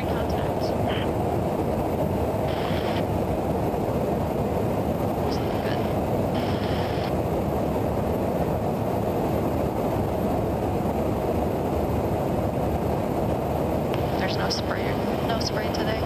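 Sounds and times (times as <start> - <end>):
jet engine and airflow roar: 0.0 - 16.0.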